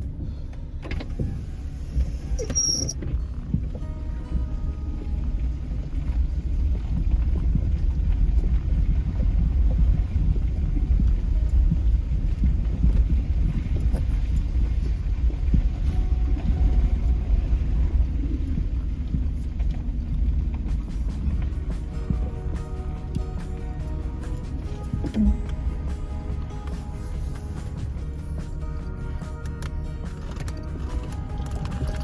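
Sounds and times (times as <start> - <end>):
vehicle driving rumble: 0.0 - 32.0.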